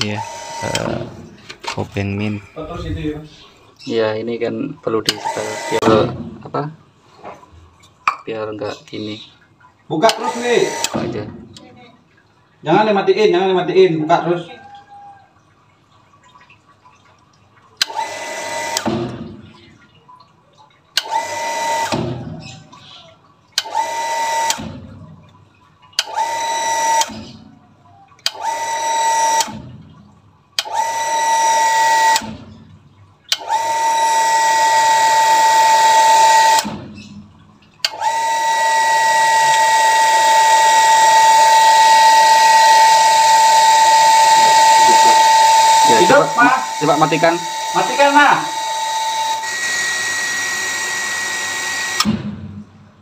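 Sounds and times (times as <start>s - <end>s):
electric water pump motor whining: 0.0s - 7.9s, 8.5s - 20.1s, 20.9s - 53.0s.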